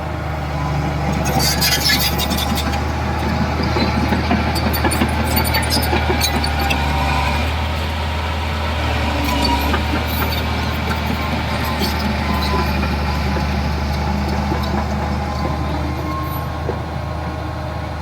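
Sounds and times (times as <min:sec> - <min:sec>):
heavy diesel engine droning: 0:00.0 - 0:18.0.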